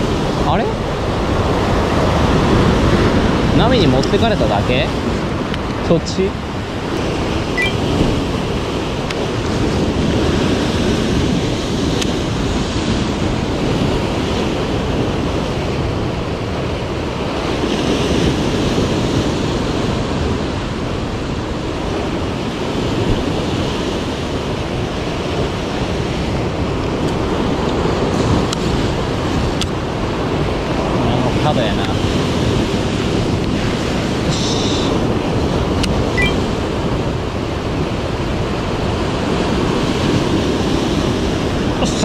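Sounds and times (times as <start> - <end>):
sea waves on rocky shore: 0.0 - 42.0
wind on microphone: 0.0 - 42.0.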